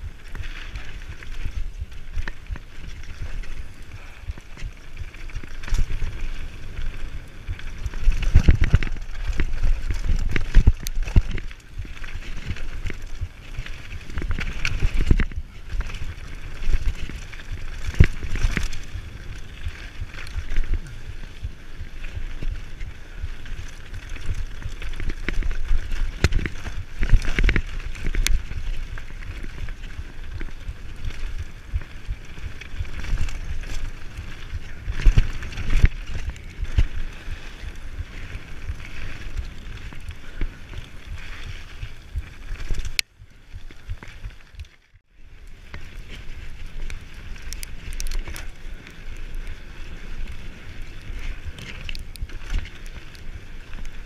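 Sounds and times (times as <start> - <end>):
bike tyre rumble and rattle: 0.0 - 54.0
bike knocking on bumps: 0.1 - 44.7.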